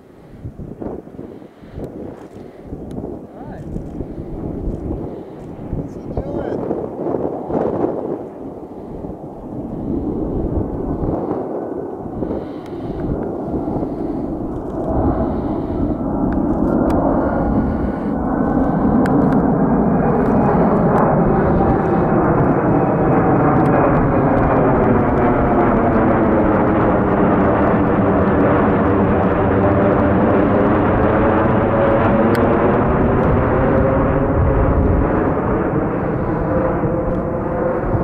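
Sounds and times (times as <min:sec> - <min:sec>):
airliner jet engines passing overhead: 0:00.0 - 0:38.0.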